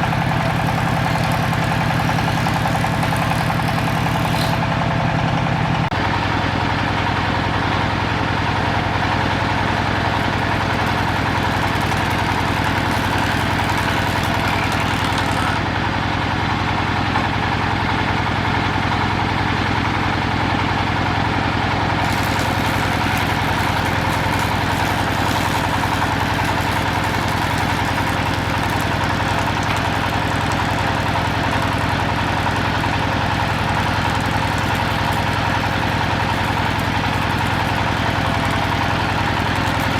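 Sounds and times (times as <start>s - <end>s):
woodworking machinery humming: 0.0s - 16.2s, 21.5s - 39.9s.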